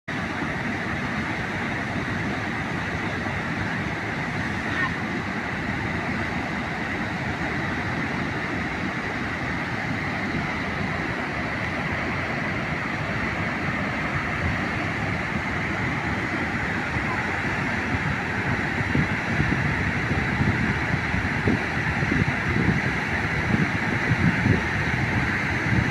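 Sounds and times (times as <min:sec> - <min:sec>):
water crashing at a dam: 0:00.1 - 0:25.9.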